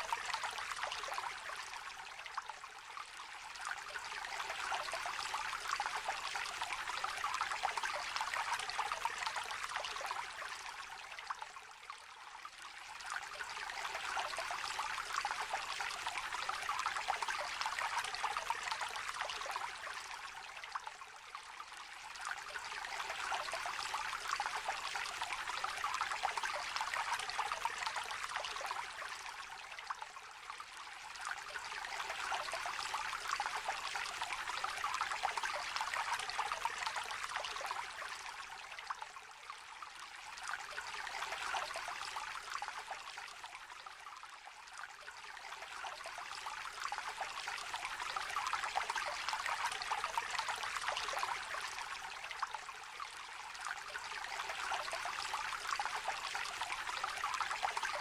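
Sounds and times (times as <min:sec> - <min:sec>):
small stream babbling: 0:00.0 - 0:58.0.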